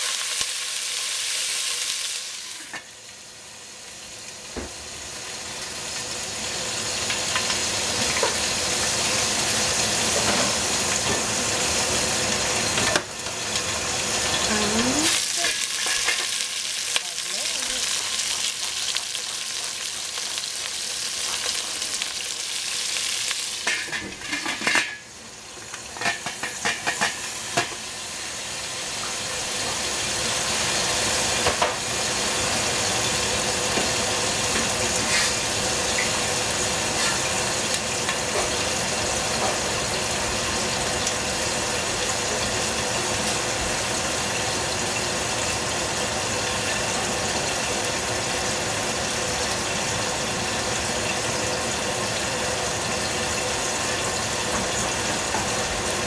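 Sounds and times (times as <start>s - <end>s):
squash sizzling under lid: 0.0s - 56.0s.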